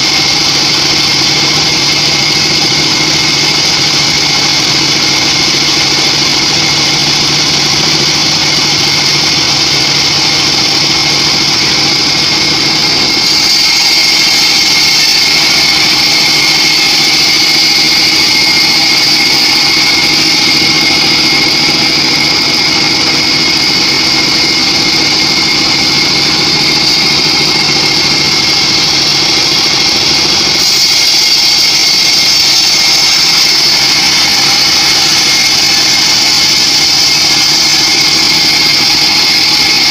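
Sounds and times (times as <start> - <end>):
band sawmill sawing a log: 0.0 - 39.9.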